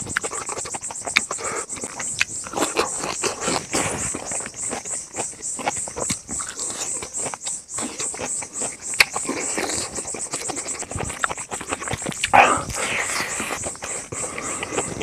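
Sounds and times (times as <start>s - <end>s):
close chewing and lip-smacking: 0.0s - 15.0s
insect chirping in a high pulse: 0.0s - 15.0s.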